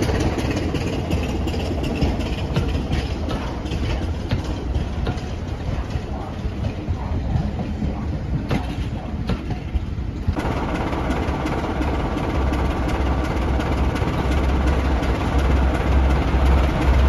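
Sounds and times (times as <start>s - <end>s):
coaches rolling past: 0.0s - 17.0s
diesel locomotive engines pulsing: 0.0s - 17.0s
train wheels clicking over rail joints: 0.0s - 17.0s.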